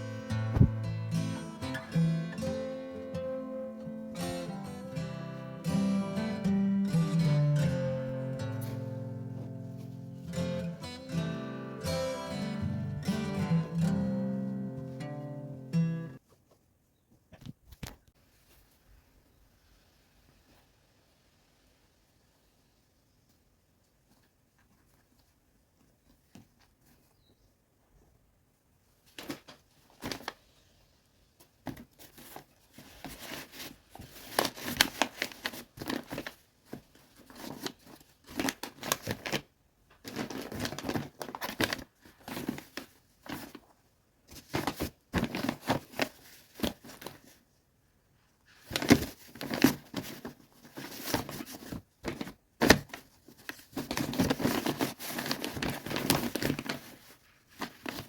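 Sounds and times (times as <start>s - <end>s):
rustling and crinkling: 0.1s - 0.9s, 8.1s - 11.0s, 13.8s - 15.4s, 16.2s - 58.0s.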